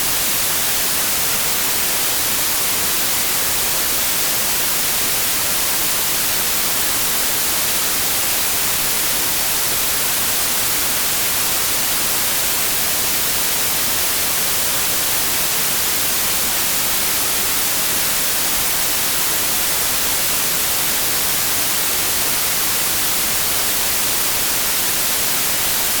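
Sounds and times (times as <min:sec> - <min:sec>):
white noise hiss: 0:00.0 - 0:26.0.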